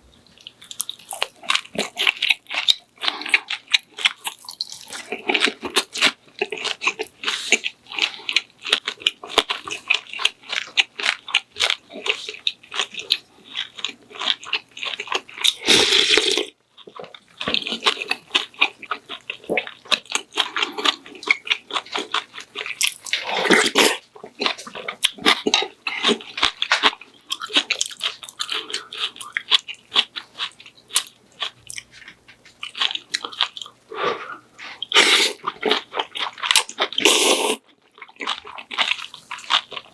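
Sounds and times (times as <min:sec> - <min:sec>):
person chewing crunchy food: 0:00.2 - 0:39.9.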